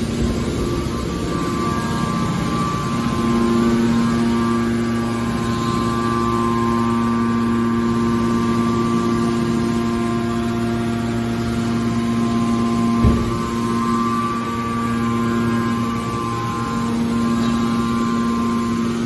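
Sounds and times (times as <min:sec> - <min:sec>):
hydraulic motor and pump humming: 0:00.0 - 0:19.0.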